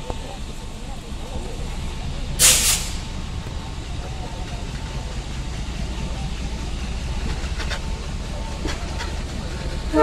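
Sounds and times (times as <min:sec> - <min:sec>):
train rumbling through station: 0:00.0 - 0:10.0.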